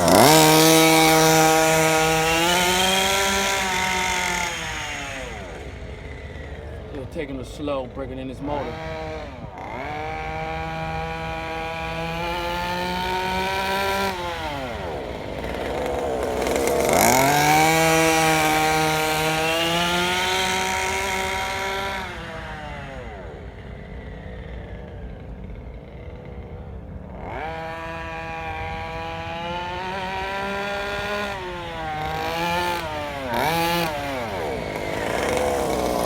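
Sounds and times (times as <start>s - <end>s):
two-stroke engine buzzing: 0.0s - 36.0s.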